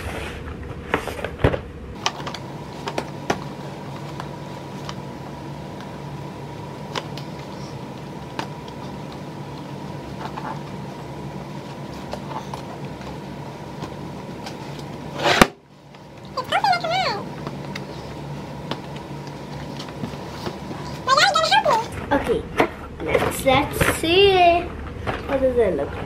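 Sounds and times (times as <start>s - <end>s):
mechanical hum with high tone: 0.0s - 26.0s.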